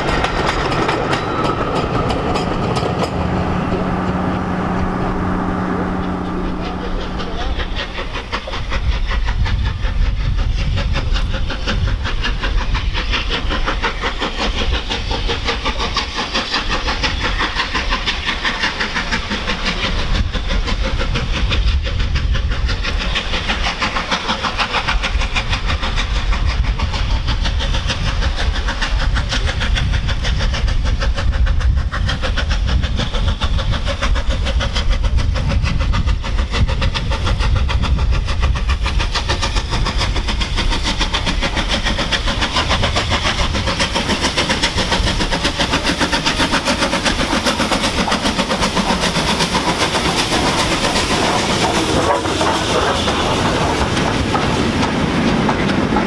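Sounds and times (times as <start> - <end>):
low rumble of train: 0.0 - 56.0
steam locomotive exhaust beats: 0.0 - 56.0.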